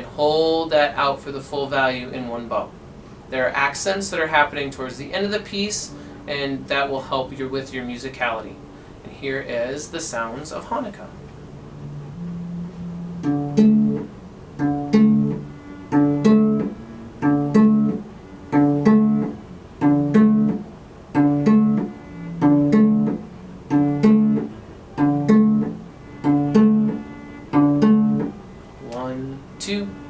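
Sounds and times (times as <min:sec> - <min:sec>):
cello plucked notes: 0:00.0 - 0:30.0.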